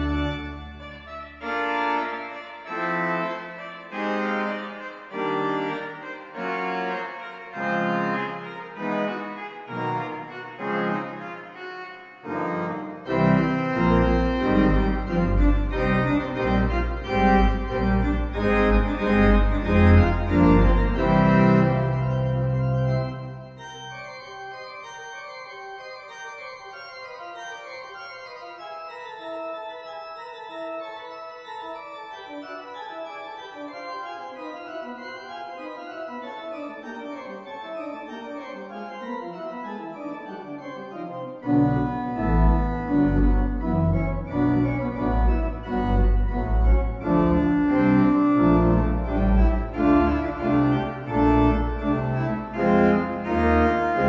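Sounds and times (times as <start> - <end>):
organ music: 0.0 - 54.0.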